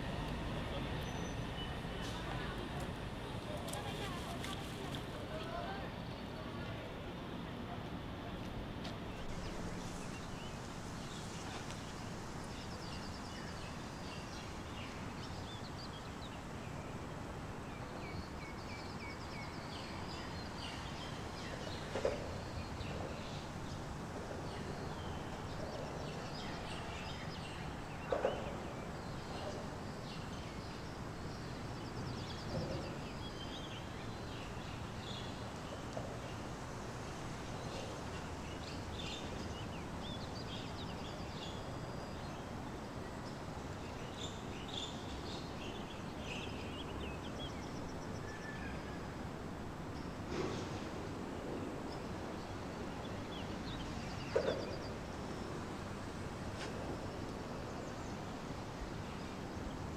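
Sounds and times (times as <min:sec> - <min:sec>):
low background noise: 0:00.0 - 0:59.9.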